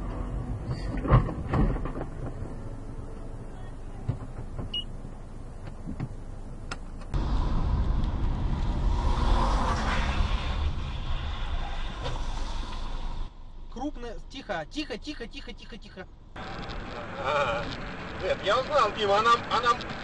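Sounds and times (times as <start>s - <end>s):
car road and engine noise: 0.0s - 13.8s, 15.9s - 20.0s.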